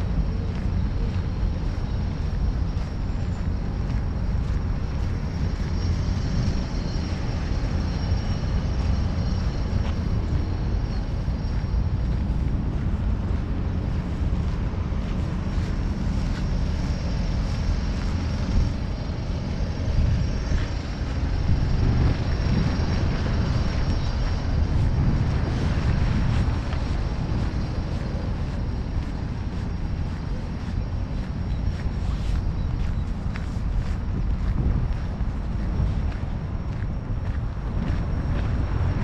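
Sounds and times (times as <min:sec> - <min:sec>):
loud low outdoor rumble: 0:00.0 - 0:39.0.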